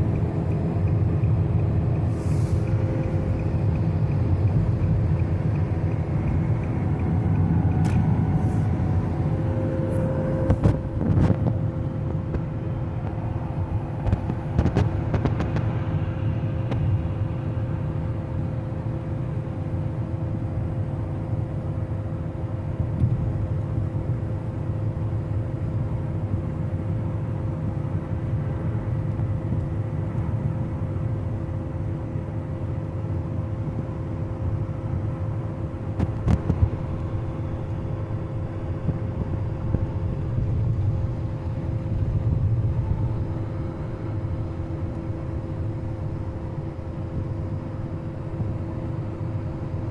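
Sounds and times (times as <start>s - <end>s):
car road and engine noise: 0.0s - 49.9s
faint steady hum: 0.0s - 49.9s.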